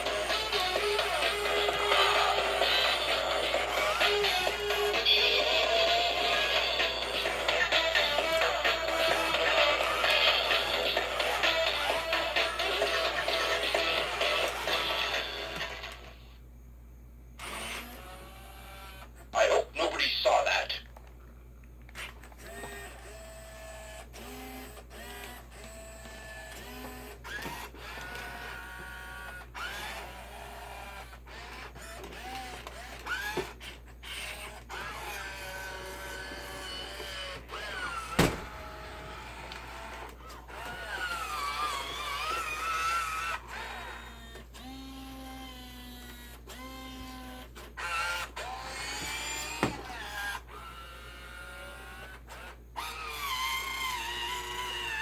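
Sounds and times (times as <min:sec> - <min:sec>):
toy robot motors whirring: 0:00.0 - 0:16.2, 0:17.4 - 0:19.1, 0:21.9 - 0:55.0.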